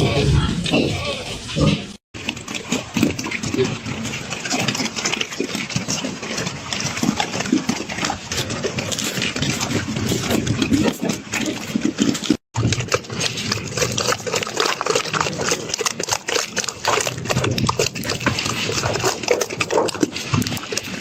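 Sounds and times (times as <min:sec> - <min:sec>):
pig grunting and snuffling: 0:00.0 - 0:21.0.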